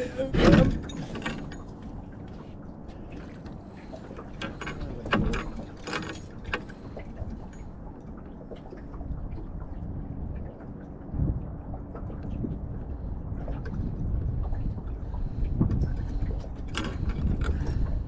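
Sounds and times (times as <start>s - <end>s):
water lapping against boat: 0.0s - 18.0s.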